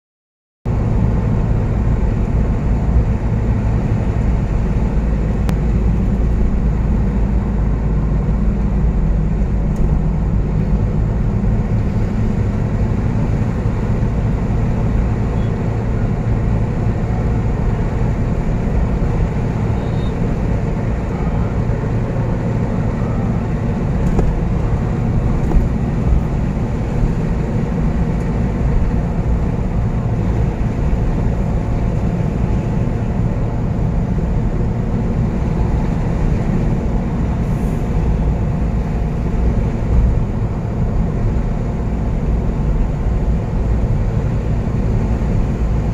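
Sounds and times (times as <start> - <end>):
diesel engine running: 0.6 - 45.9
tyre and road noise: 0.7 - 45.9.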